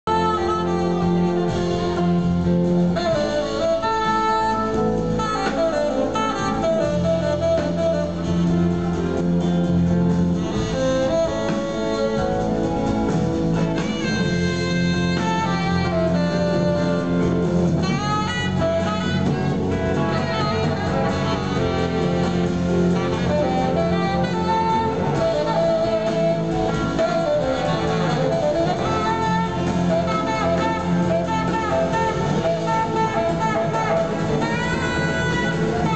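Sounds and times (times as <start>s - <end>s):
drums: 0.0s - 35.9s
saxophone: 0.0s - 35.9s
electric guitar: 0.1s - 35.9s
live blues-rock band: 0.1s - 35.9s.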